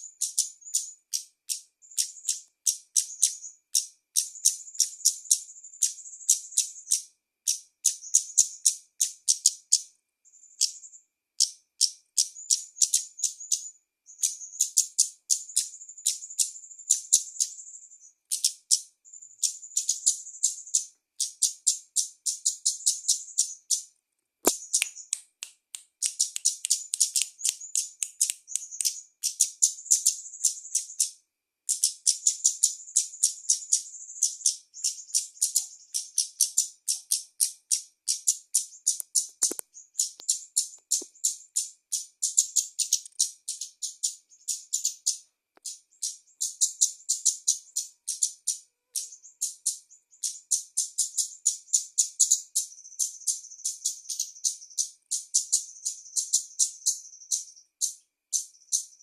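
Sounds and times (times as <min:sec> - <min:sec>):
bird chattering chips and trills: 0:00.0 - 0:09.9, 0:10.5 - 0:25.3, 0:26.0 - 0:59.0.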